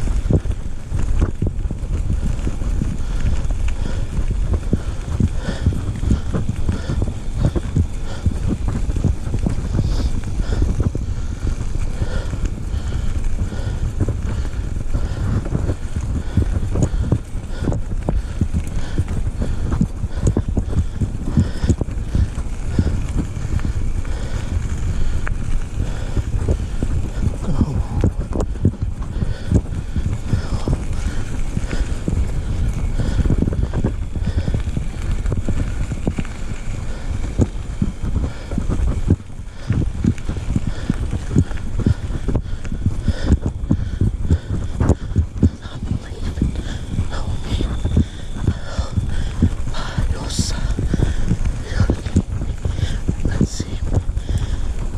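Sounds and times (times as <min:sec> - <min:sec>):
horse hooves on dirt trail: 0:00.0 - 0:54.9
wind rumbling on microphone: 0:00.0 - 0:54.9.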